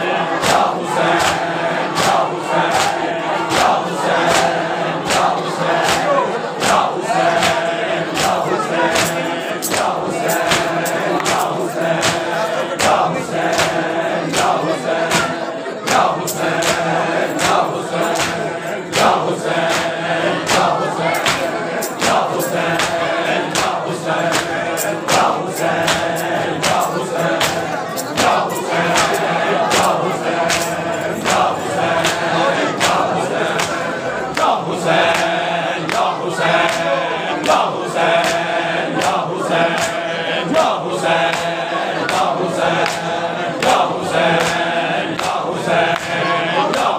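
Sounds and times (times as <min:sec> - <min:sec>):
men chanting in unison: 0:00.0 - 0:46.9
chest-beating slaps: 0:00.4 - 0:46.9.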